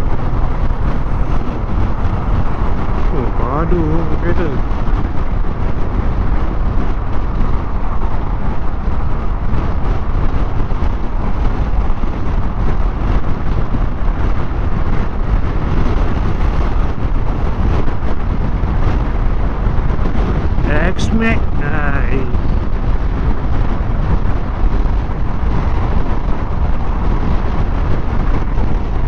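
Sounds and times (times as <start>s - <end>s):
tyre and road noise: 0.0s - 29.0s
wind rushing over microphone: 0.0s - 29.0s.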